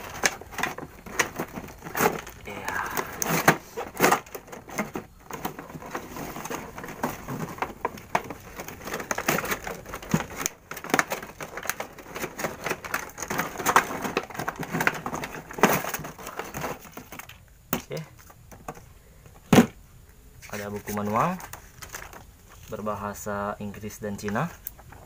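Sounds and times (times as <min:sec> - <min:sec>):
plastic packaging crinkling: 0:00.0 - 0:18.4, 0:20.5 - 0:25.0.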